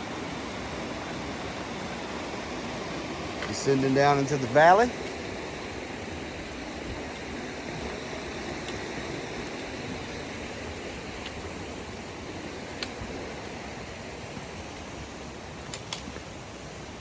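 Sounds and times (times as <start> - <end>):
creek rushing over cascades: 0.0 - 17.0.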